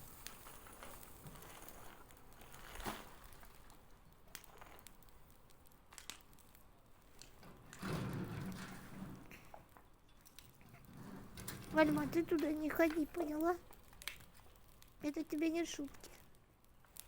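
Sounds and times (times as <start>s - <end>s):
bonfire crackling: 0.0s - 17.0s
burning wood snapping: 0.0s - 17.0s.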